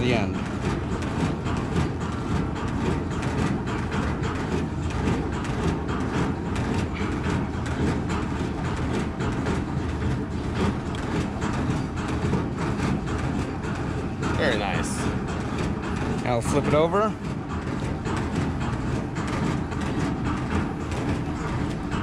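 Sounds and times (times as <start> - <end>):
machinery low rumble: 0.0 - 22.0
rapid uneven clatter: 0.0 - 22.0.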